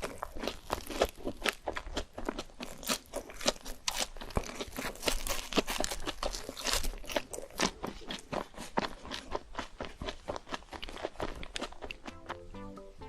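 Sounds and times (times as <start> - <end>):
crunching crispy fried food: 0.0 - 12.3.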